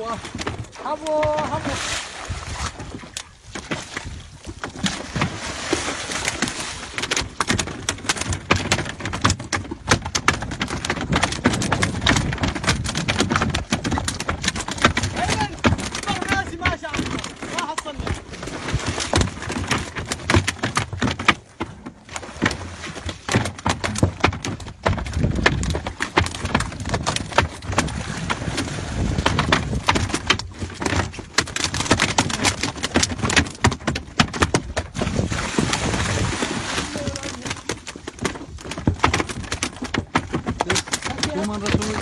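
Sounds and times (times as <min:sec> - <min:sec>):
fish thrashing and splashing: 0:00.0 - 0:42.0.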